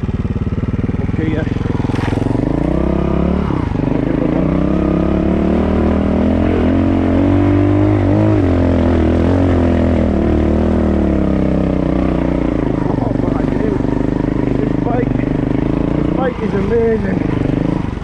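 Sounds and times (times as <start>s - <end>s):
motorcycle engine at low throttle: 0.0s - 18.0s.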